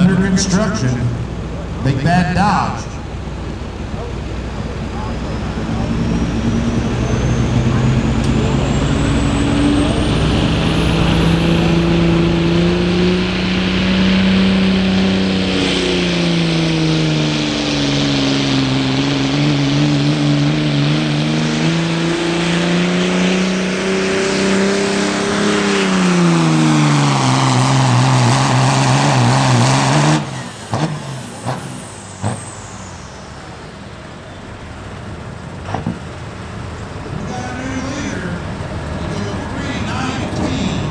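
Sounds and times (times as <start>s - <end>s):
diesel truck engine at full throttle: 0.0s - 40.9s.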